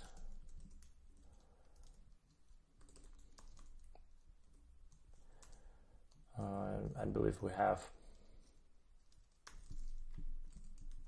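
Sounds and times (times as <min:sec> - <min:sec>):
keyboard typing: 0:00.0 - 0:06.3, 0:08.1 - 0:11.0.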